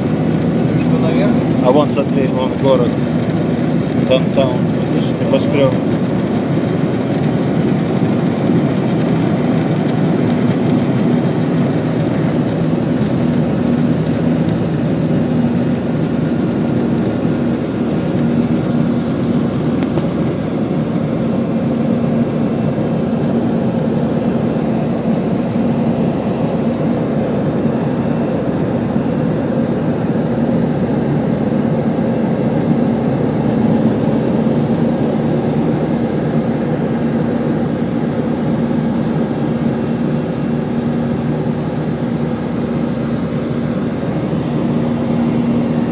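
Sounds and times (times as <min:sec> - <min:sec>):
constant low drone: 0:00.0 - 0:45.9
jet cabin engine roar: 0:00.0 - 0:45.9.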